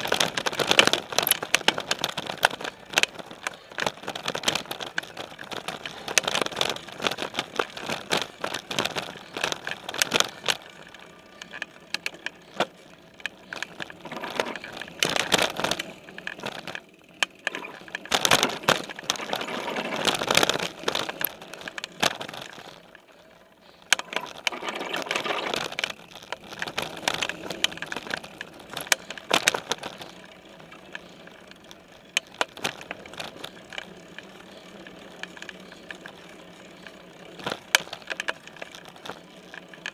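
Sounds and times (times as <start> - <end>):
mountain bike clattering: 0.0 - 39.9
tyre noise on dirt: 0.0 - 39.9.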